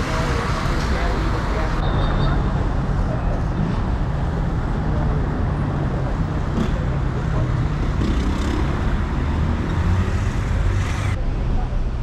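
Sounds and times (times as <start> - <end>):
low rumble of passing vehicles: 0.0 - 12.0.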